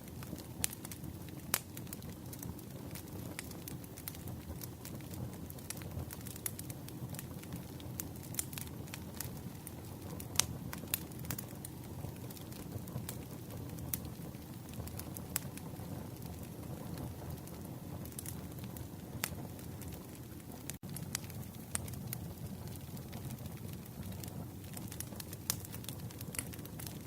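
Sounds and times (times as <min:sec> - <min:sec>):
campfire crackling and popping: 0:00.0 - 0:27.0
low rush of burning: 0:00.0 - 0:27.0.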